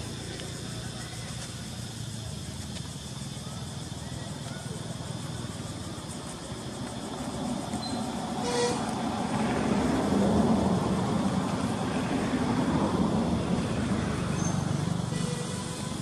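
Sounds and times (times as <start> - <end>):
passing motor vehicle rumble: 0.0 - 16.0.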